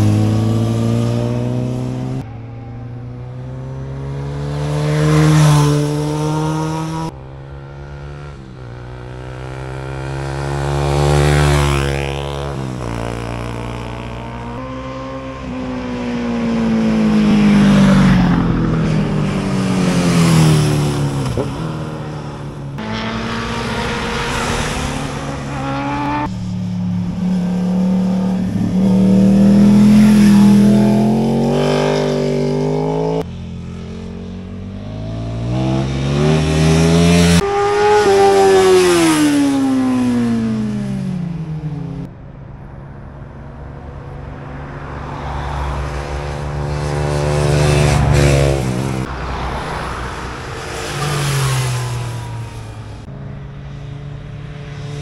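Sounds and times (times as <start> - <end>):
motorcycles revving past: 0.0 - 2.2, 2.8 - 42.1, 44.9 - 55.0.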